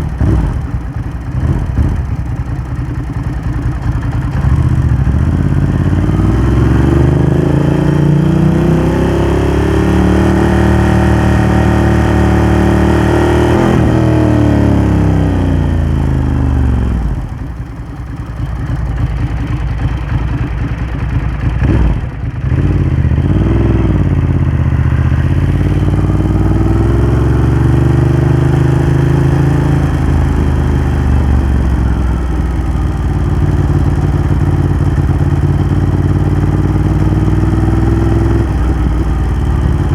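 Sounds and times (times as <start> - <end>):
motorcycle engine under throttle: 0.0 - 39.9.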